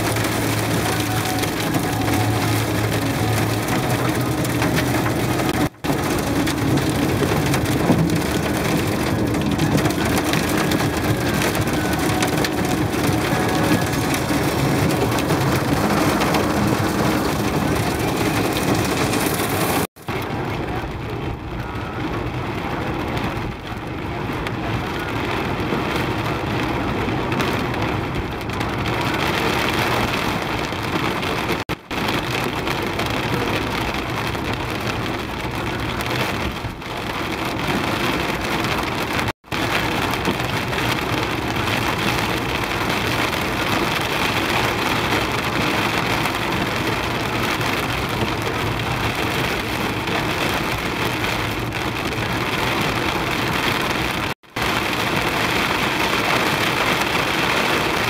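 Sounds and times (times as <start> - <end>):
heavy rain on car roof: 0.0 - 58.0.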